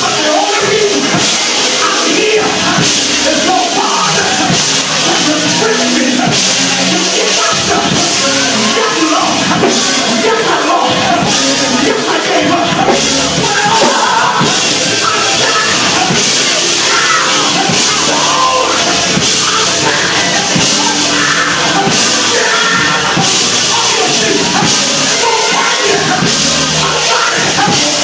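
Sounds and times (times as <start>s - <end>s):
drums on a steady beat: 0.0s - 28.0s
live church music: 0.0s - 28.0s
voices singing and shouting: 0.0s - 28.0s.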